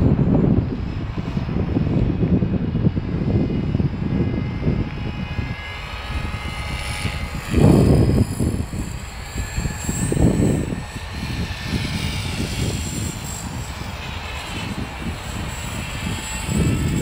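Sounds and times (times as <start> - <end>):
rc helicopter motor whine: 0.0 - 17.0
wind buffeting microphone: 0.0 - 17.0.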